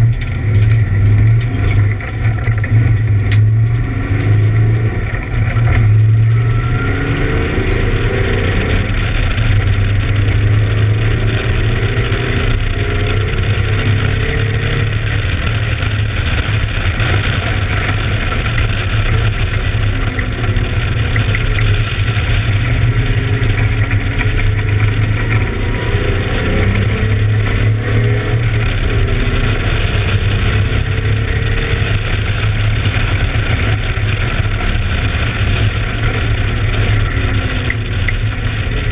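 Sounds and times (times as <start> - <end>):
misfiring car engine revving: 0.0 - 38.9.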